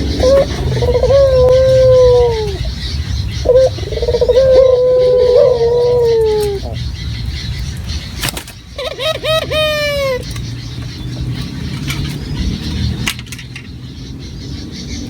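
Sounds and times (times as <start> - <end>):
dove cooing: 0.0 - 13.1.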